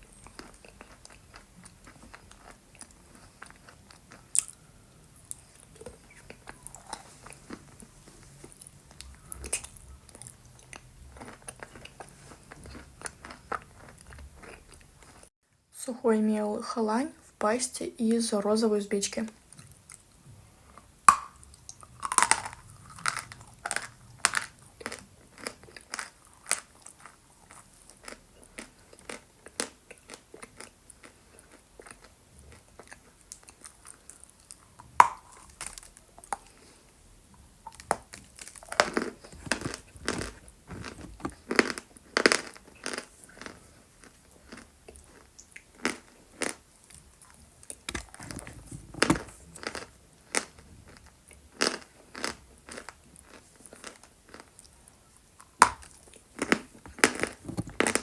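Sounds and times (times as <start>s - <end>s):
crunching and chewing chalk: 0.0s - 15.3s, 19.5s - 58.0s.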